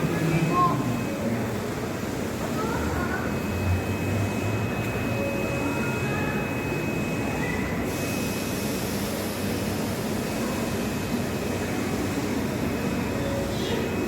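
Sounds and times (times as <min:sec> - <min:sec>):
thin steady high tone: 0:00.0 - 0:14.0
train noise: 0:00.0 - 0:14.0.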